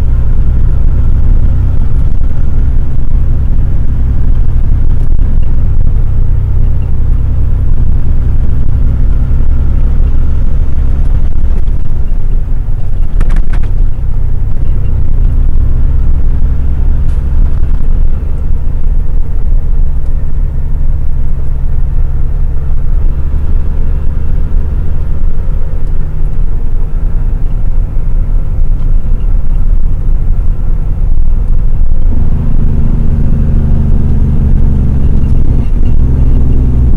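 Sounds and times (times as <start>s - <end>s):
truck diesel engine rumbling: 0.0s - 36.9s.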